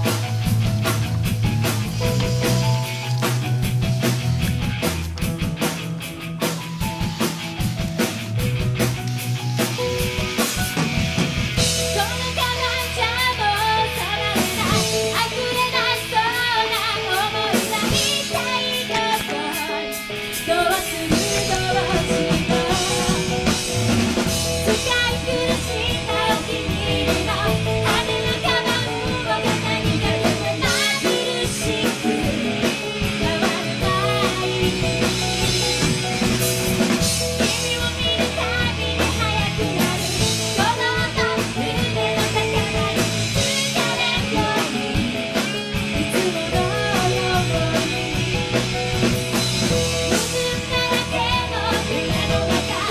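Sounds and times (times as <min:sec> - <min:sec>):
rock song with singer: 0:00.0 - 0:52.9.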